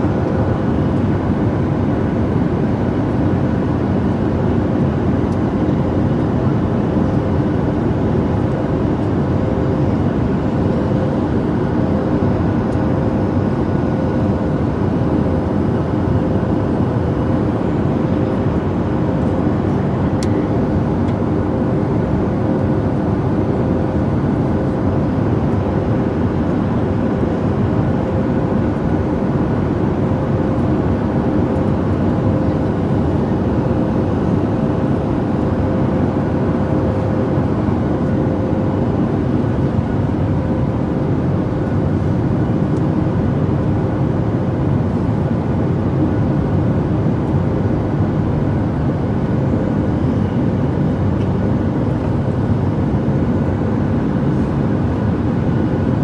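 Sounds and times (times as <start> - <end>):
aircraft flight hum: 0.0 - 56.0.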